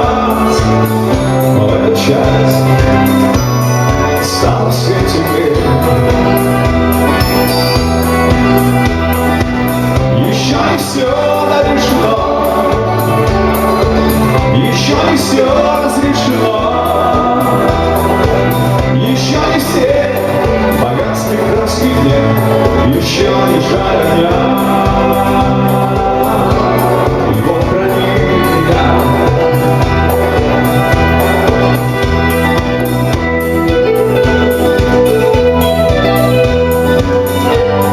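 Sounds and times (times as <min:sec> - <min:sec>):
man singing: 0:00.0 - 0:07.5, 0:09.9 - 0:37.9
live rock band: 0:00.0 - 0:37.9.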